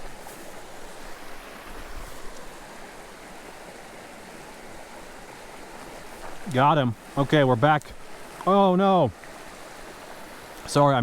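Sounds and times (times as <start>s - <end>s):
mountain creek flowing: 0.0s - 11.0s.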